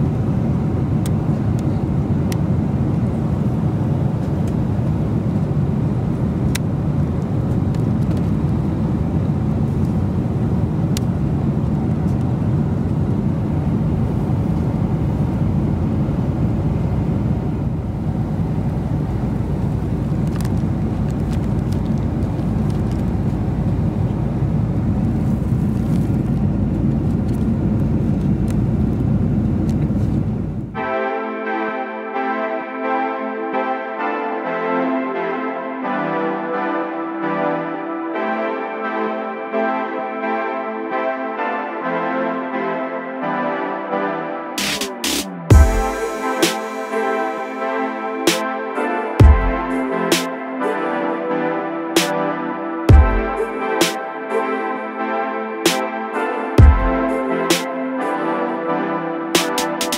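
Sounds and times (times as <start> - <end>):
airliner cabin roar: 0.0 - 34.3, 43.2 - 59.9.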